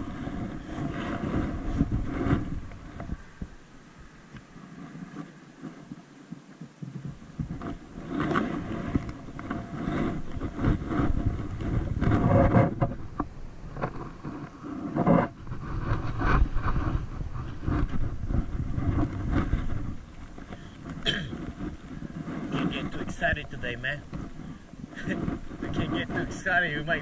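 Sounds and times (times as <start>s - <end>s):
wind buffeting microphone: 0.0s - 5.6s, 6.6s - 27.0s
camera handling rustles and knocks: 4.4s - 26.3s.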